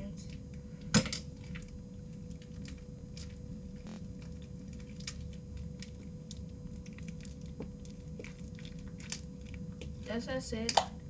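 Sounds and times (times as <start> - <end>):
low electrical hum: 0.0 - 11.0
slime squishing: 1.3 - 11.0.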